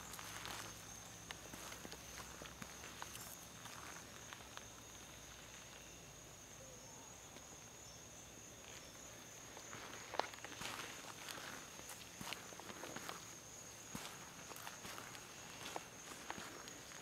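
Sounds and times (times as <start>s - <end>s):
footsteps on sandy ground: 0.0s - 5.9s, 8.6s - 17.0s
high-pitched insect chorus: 0.0s - 17.0s.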